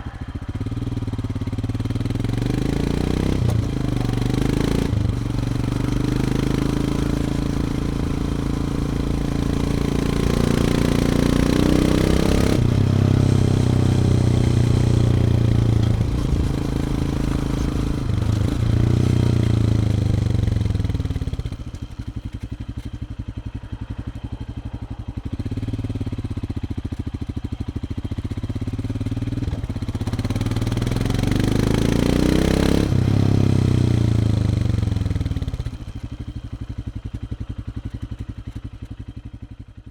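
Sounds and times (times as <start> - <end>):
motorcycle engine revving: 0.0 - 39.7.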